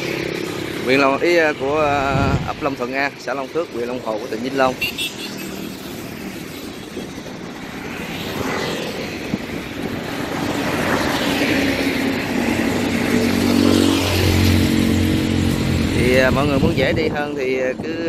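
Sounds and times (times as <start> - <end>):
tyre hiss of passing vehicles: 0.0 - 17.0.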